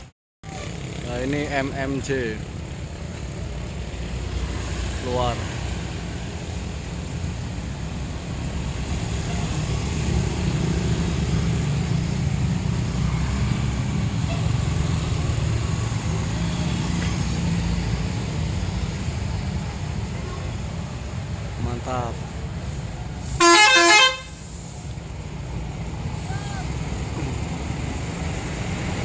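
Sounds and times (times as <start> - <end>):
bus diesel engine rumbling: 0.0 - 29.0.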